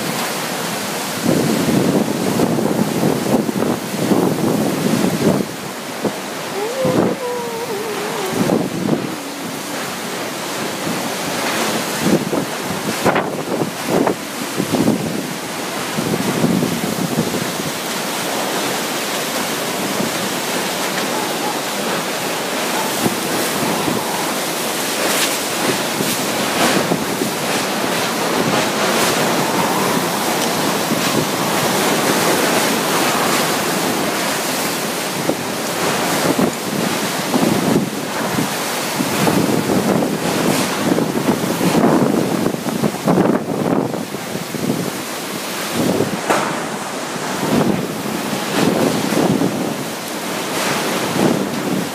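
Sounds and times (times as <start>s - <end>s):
wind and driving rain: 0.0s - 51.9s
wind buffeting microphone: 0.0s - 51.9s.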